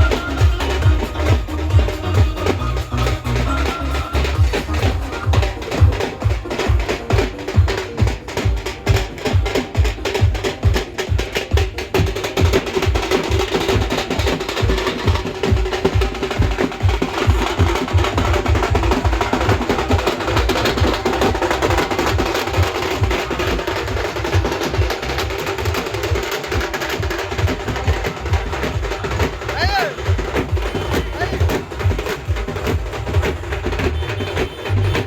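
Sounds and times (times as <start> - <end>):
loud percussion-heavy music: 0.0 - 35.0.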